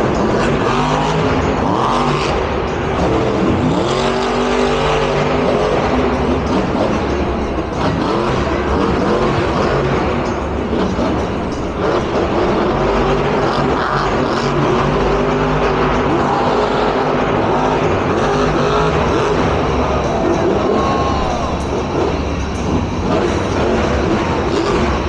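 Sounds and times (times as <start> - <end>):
truck engine revving hard: 0.0 - 25.0.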